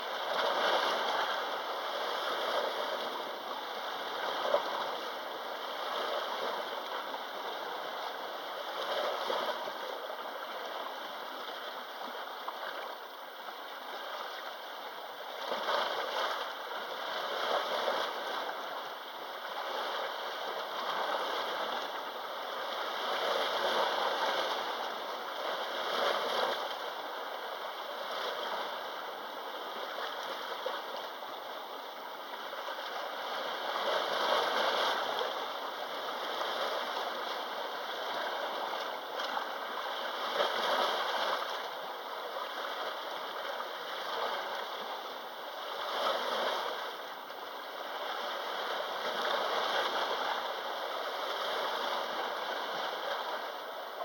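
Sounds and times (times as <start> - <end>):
small waves washing ashore: 0.0 - 54.0.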